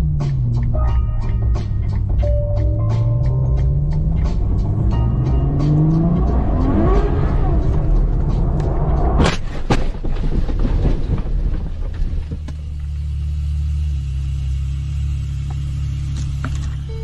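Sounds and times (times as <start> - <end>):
car engine revving: 0.0 - 9.7, 11.5 - 17.0.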